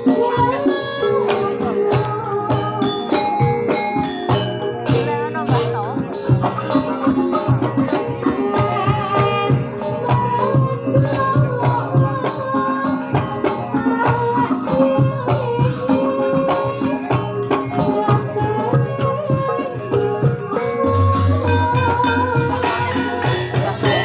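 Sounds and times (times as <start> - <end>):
gamelan music: 0.0 - 24.0
hand drum steady beat: 0.0 - 24.0
sustained pitched instruments: 0.0 - 24.0.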